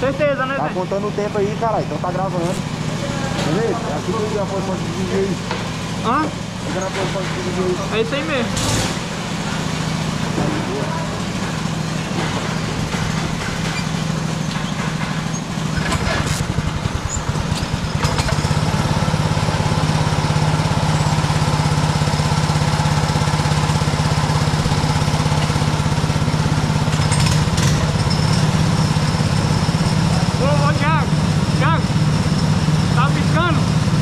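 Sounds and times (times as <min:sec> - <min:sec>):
go-kart engine droning: 0:00.0 - 0:34.0.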